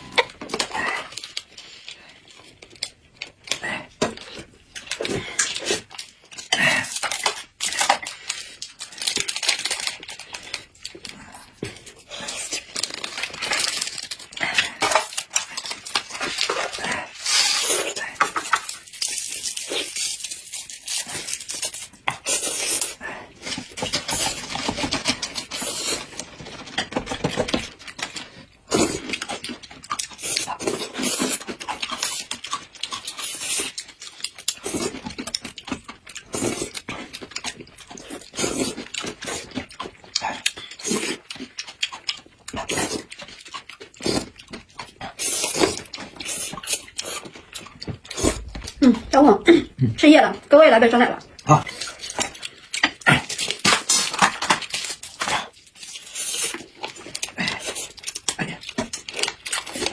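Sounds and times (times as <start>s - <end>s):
chewing and slurping: 0.0s - 49.2s, 51.2s - 59.9s.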